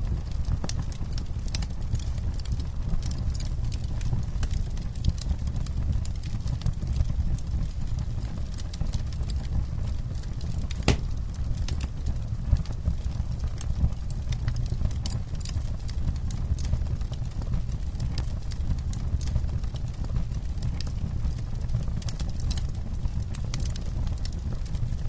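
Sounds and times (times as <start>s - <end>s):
campfire popping and crackling: 0.0s - 25.0s.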